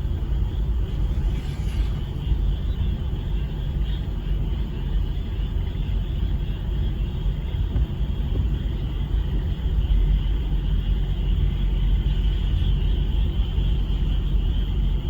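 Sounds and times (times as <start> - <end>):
frogs chorus: 0.0 - 15.0
low rumble: 0.0 - 15.0.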